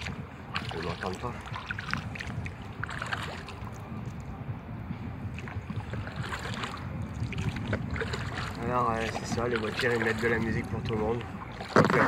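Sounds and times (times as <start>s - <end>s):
small splashes: 0.0s - 4.2s, 5.4s - 12.0s
water lapping and dripping: 0.0s - 4.4s, 5.3s - 12.0s
wind rumble on microphone: 0.0s - 12.0s.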